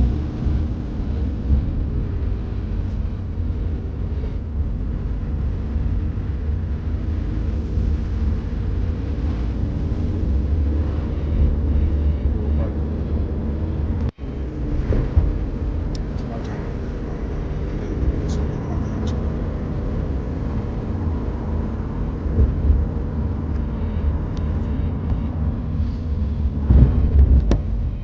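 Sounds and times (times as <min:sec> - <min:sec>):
car driving along a road: 0:00.0 - 0:28.0.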